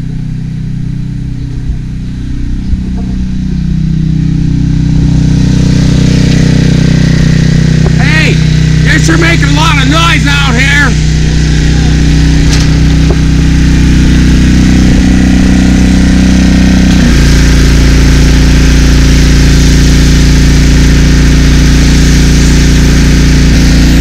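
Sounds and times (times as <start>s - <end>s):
pressure washer engine running: 0.0s - 24.0s.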